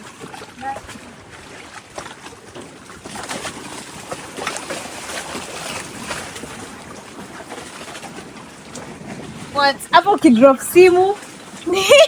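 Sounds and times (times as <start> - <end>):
water lapping and splashing: 0.0 - 12.0.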